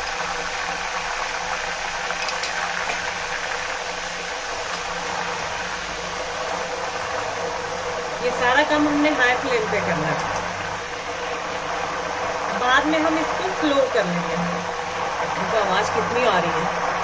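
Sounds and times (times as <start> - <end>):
banana slices sizzling in hot oil: 0.0 - 17.0.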